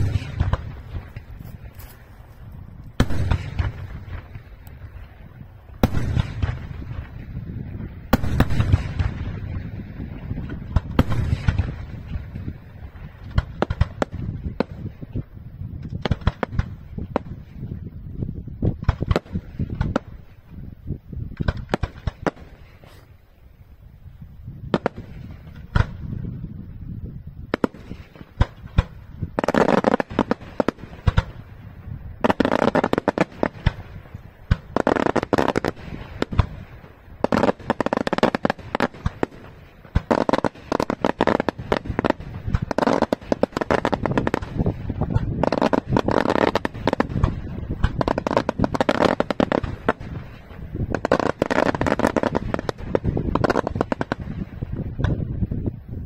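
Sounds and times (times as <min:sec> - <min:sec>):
fireworks bangs: 0:00.0 - 0:20.4, 0:21.3 - 0:23.1, 0:24.6 - 0:26.6, 0:27.4 - 0:55.6
crackling fireworks reports: 0:00.0 - 0:56.0.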